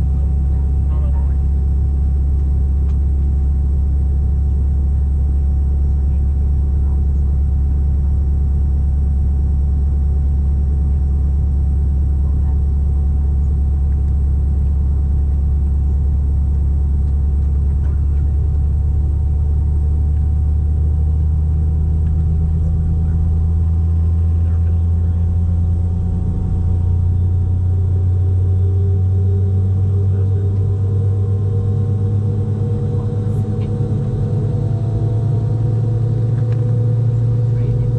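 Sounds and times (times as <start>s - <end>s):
airliner cabin drone: 0.0s - 37.9s.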